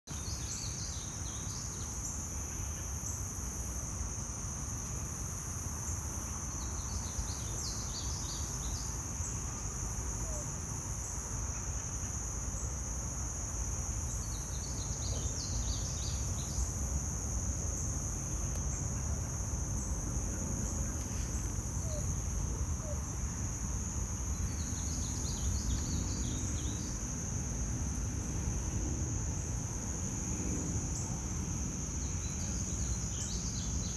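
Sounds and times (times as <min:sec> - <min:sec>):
high-pitched insect trill: 0:00.2 - 0:33.9.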